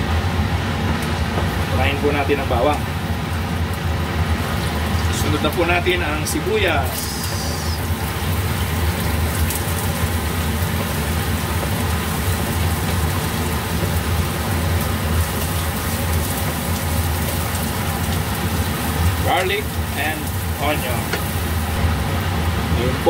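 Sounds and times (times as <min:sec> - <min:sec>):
onion and garlic sizzling in oil: 0:00.0 - 0:23.0
steady low hum: 0:00.0 - 0:23.0.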